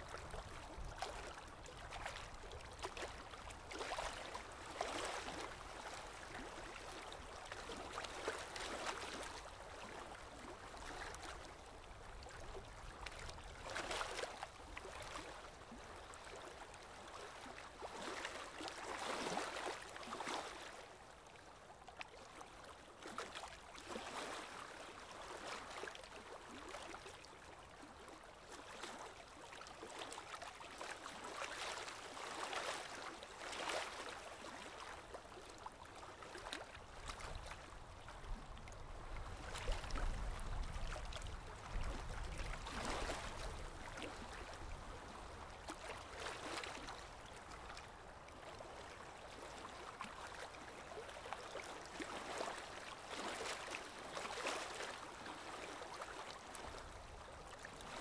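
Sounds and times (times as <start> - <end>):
lake water lapping in small waves: 0.0 - 58.0.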